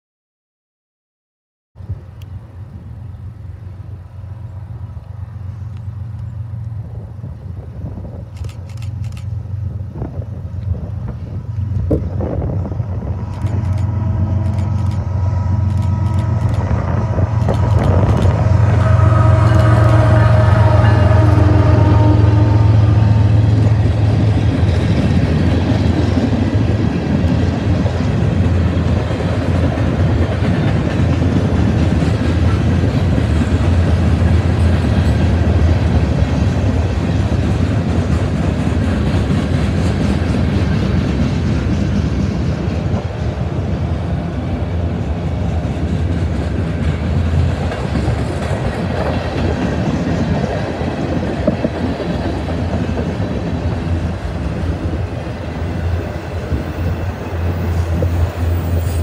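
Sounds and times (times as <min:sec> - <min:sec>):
train wheels rumbling on track: 0:01.8 - 0:59.0.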